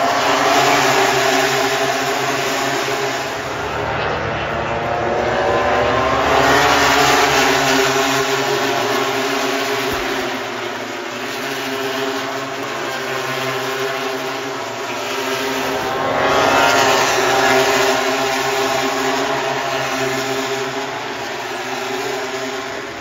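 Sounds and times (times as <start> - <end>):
loud engine hum: 0.0 - 23.0.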